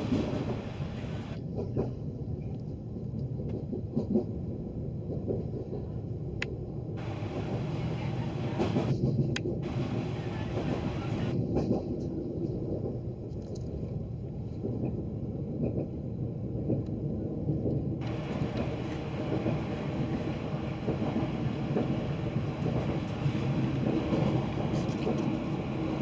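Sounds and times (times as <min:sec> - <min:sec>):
train rumble with rattling: 0:00.0 - 0:26.0.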